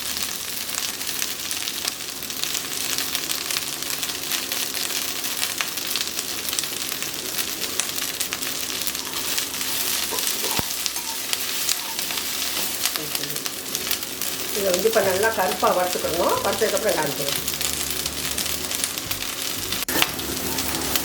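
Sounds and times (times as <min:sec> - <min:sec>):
leaves and chillies sizzling in oil: 0:00.0 - 0:21.0.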